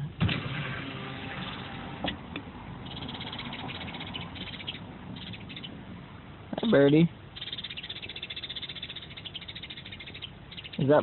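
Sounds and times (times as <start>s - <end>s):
small birds chirping: 1.4s - 11.0s.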